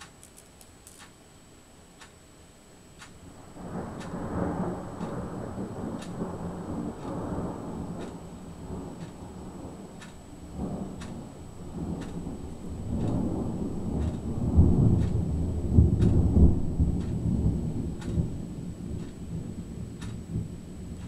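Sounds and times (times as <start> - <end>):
thunder rumbling: 3.3 - 21.0.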